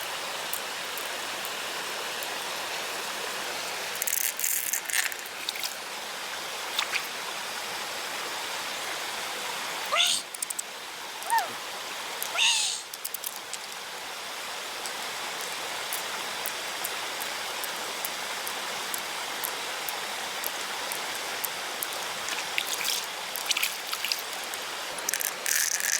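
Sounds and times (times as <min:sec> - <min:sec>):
running water: 0:00.0 - 0:25.9.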